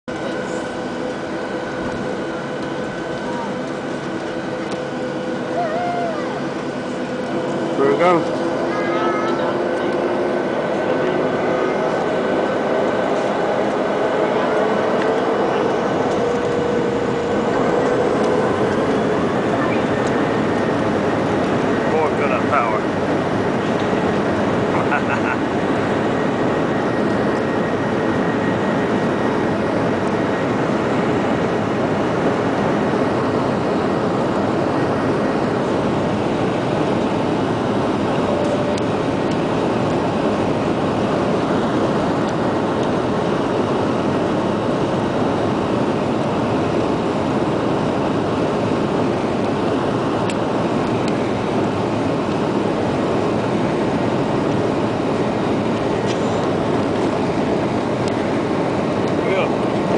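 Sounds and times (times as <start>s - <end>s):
jet airliner cabin rumble: 0.1s - 59.9s.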